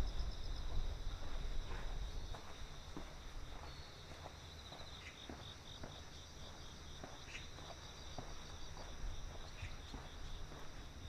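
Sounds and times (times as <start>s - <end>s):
crickets chirping: 0.0s - 11.0s
footsteps: 0.0s - 11.0s.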